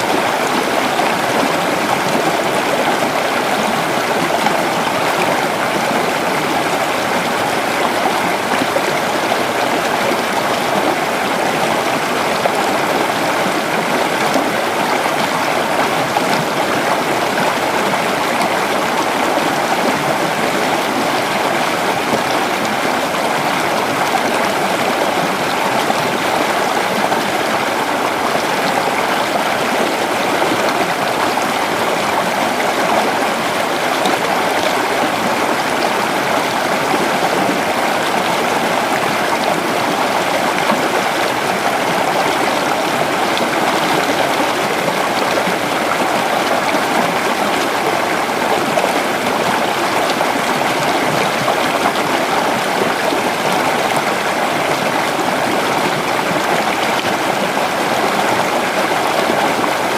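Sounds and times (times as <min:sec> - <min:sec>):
creek water babbling over rocks: 0:00.0 - 0:59.9.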